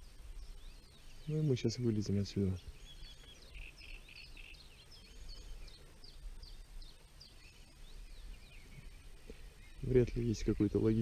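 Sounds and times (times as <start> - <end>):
songbird singing faintly: 0.0 - 11.0.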